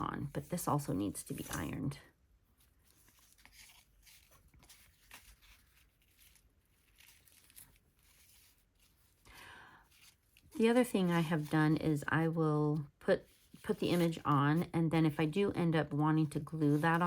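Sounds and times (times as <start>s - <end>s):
paper and cardboard rustling: 0.3s - 14.7s, 16.2s - 17.0s.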